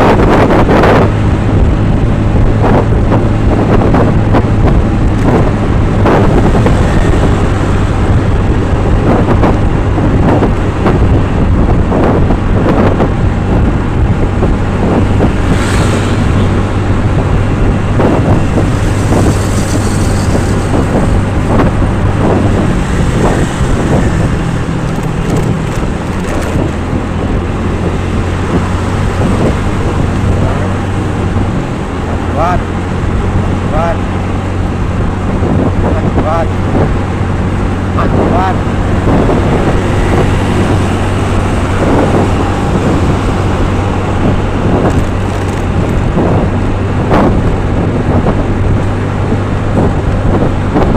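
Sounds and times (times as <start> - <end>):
vehicle engine humming: 0.0 - 50.9
wind buffeting microphone: 0.0 - 50.9.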